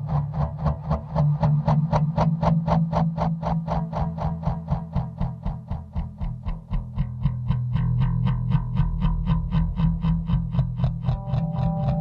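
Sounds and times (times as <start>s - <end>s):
bass guitar plucked notes: 0.0s - 12.0s.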